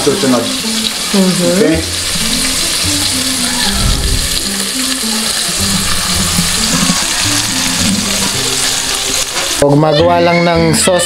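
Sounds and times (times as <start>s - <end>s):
background music: 0.0s - 11.0s
chicken sizzling in hot oil: 0.0s - 11.0s.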